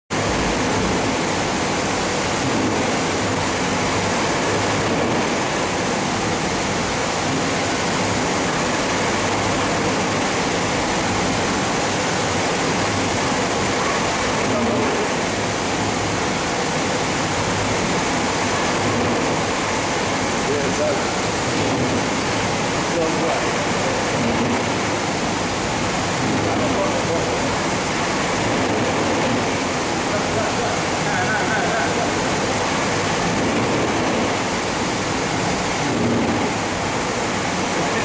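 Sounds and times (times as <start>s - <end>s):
loud rushing noise: 0.1s - 38.0s.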